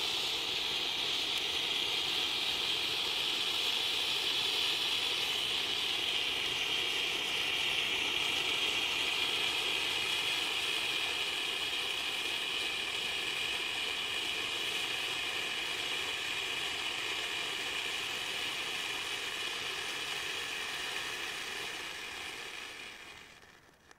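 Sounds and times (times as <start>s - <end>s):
flares burning with a hiss: 0.0s - 23.9s.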